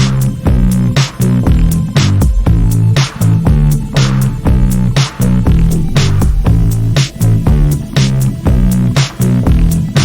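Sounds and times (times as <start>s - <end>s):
drum beat: 0.0s - 10.0s
repeating bass line: 0.0s - 10.0s.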